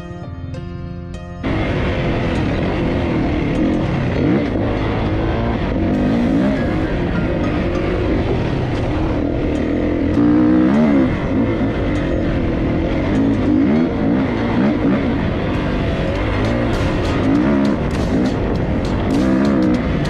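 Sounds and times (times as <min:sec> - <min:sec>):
dirt bike engine revving: 0:01.4 - 0:20.0.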